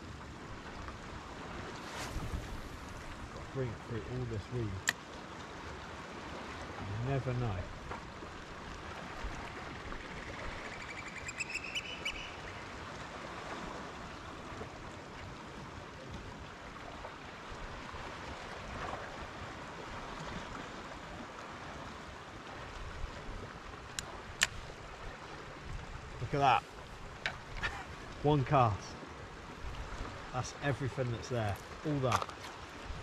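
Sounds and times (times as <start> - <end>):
water lapping around a kayak: 0.0 - 33.0.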